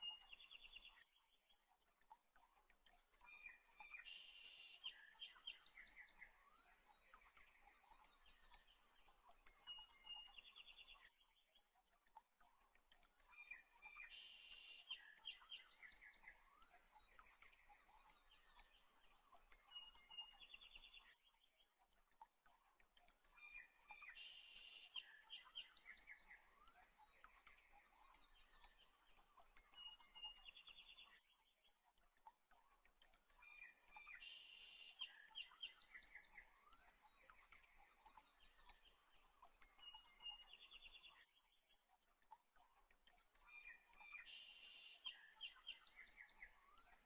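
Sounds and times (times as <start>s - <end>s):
faint birdsong chirps and trills: 0.0s - 47.0s.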